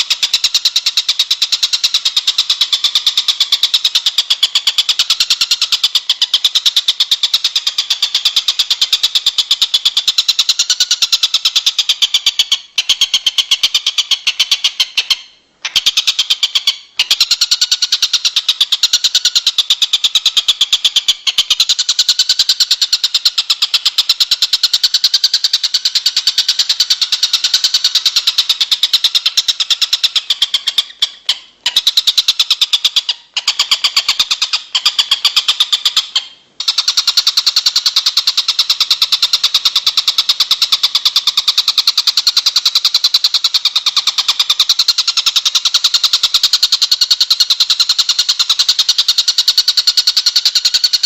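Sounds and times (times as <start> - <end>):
songbird trilling: 0.0 - 51.0.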